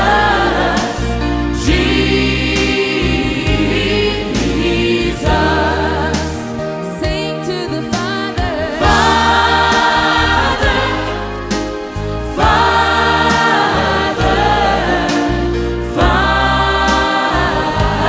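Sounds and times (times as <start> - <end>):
bass notes: 0.0 - 18.0
choir singing: 0.0 - 18.0
drums: 0.0 - 18.0.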